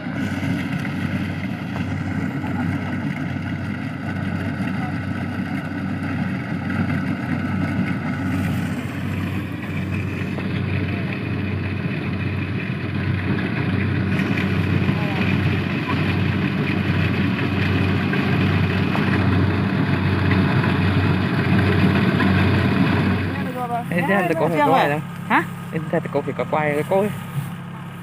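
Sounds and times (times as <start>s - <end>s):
harvester engine drone: 0.0s - 28.0s.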